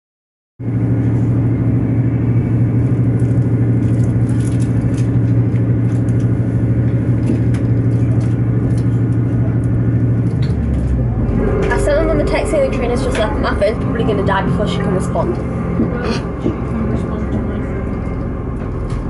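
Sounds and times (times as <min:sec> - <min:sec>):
diesel engine drone: 0:00.6 - 0:19.0.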